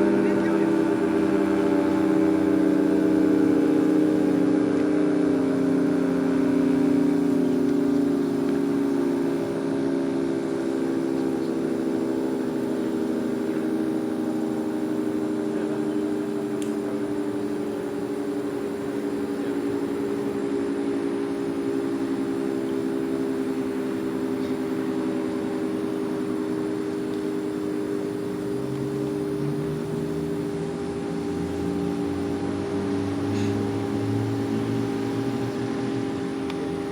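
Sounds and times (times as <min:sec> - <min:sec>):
steady multi-tone siren: 0:00.0 - 0:36.9.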